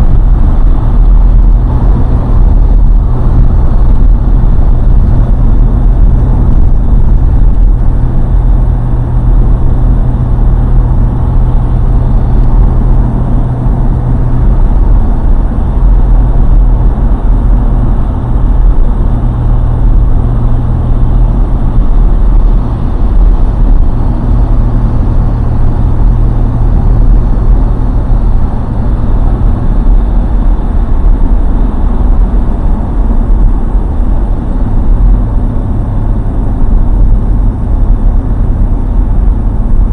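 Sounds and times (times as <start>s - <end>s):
car road and engine noise: 0.0s - 39.9s
low hum: 0.0s - 39.9s.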